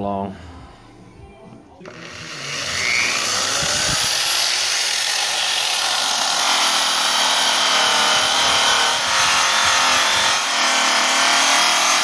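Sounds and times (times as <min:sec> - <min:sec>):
buffing wheel polishing metal: 0:01.8 - 0:12.0.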